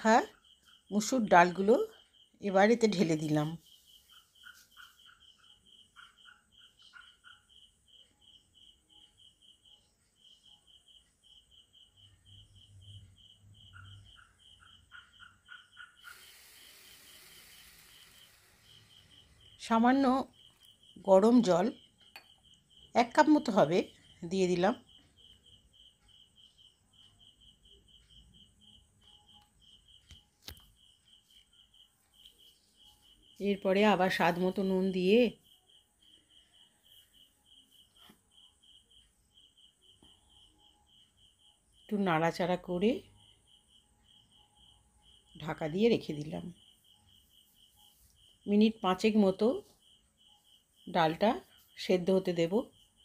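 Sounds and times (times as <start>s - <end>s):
insect chirping: 0.0s - 53.0s.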